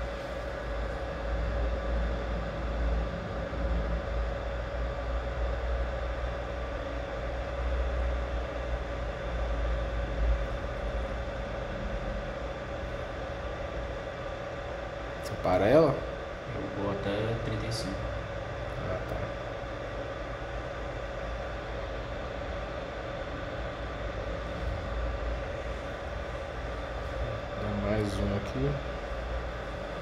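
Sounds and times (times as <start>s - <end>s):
mid-pitched hum: 0.0s - 30.0s.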